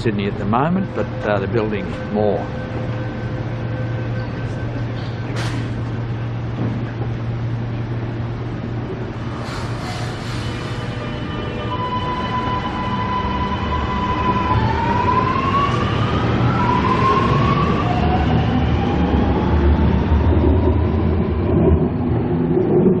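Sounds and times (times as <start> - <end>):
train low rumble: 0.0 - 23.0
traction motor whine: 0.9 - 22.9.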